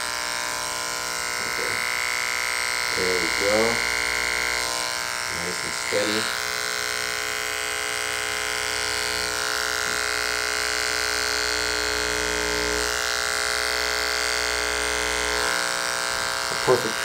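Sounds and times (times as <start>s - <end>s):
electric hair clipper buzzing: 0.0s - 17.0s.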